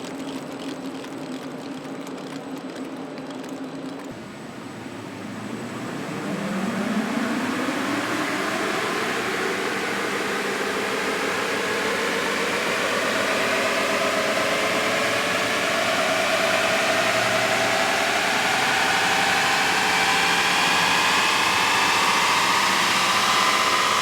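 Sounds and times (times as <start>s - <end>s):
car engine speeding up: 4.1s - 24.0s.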